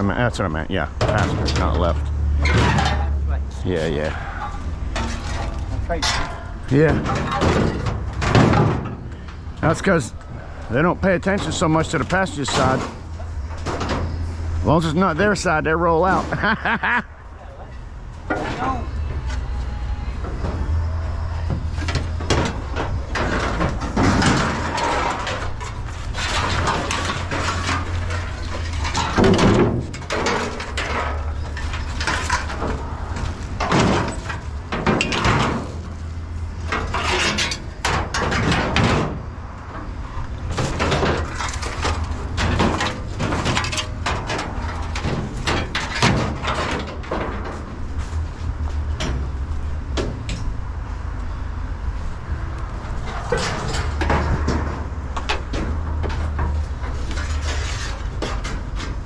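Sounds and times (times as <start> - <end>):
knocks and clanks: 0.0 - 17.2, 18.1 - 59.0.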